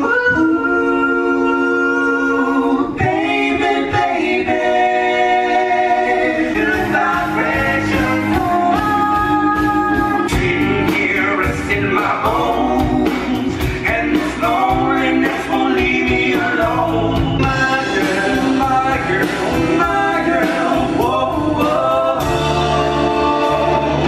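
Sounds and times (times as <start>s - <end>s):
vocal group singing in harmony: 0.0s - 24.0s.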